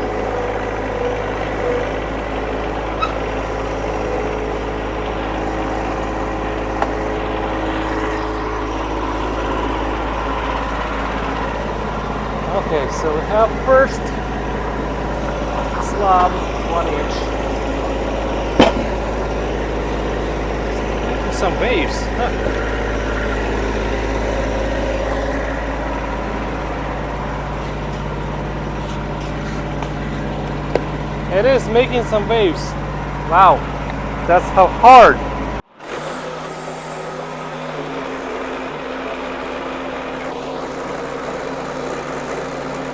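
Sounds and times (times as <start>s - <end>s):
band sawmill sawing log: 0.0s - 42.9s.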